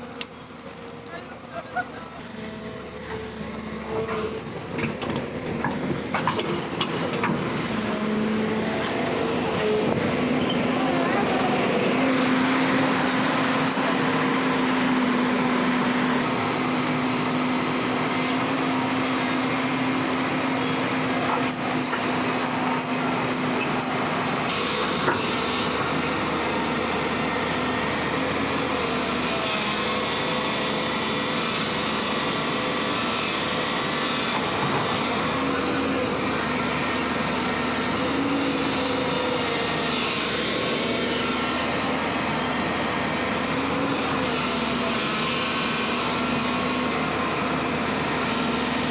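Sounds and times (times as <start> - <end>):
diesel machinery droning: 0.0 - 48.9.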